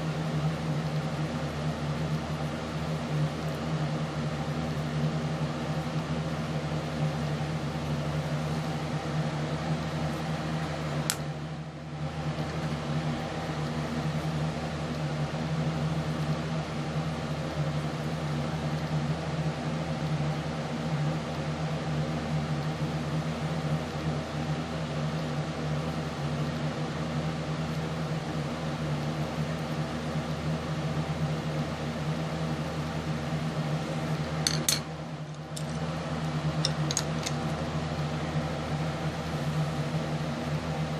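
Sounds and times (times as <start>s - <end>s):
fan-like hum: 0.0s - 40.9s.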